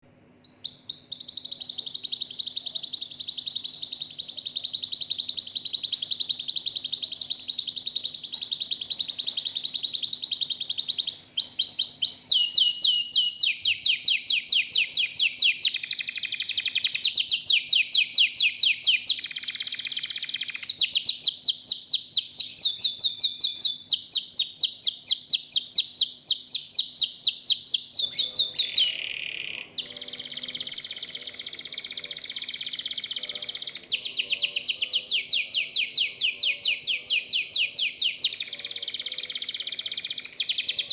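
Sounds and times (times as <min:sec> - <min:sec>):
canary singing: 0:00.4 - 0:40.9.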